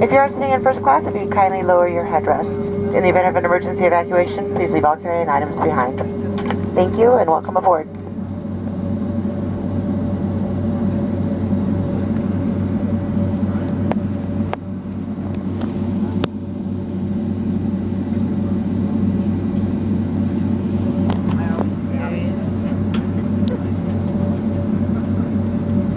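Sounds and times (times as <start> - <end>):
aircraft cabin engine drone: 0.0 - 25.9.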